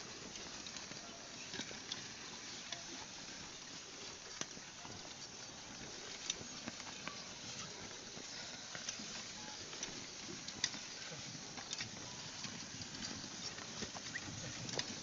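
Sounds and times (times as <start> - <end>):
soft cattle steps: 0.0 - 15.0
steady outdoor hiss: 0.0 - 15.0.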